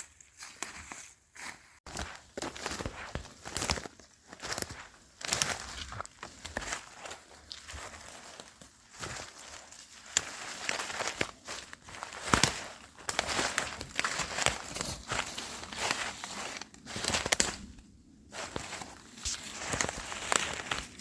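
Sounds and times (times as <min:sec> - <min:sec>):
footsteps in woods: 0:00.0 - 0:17.6, 0:18.3 - 0:21.0.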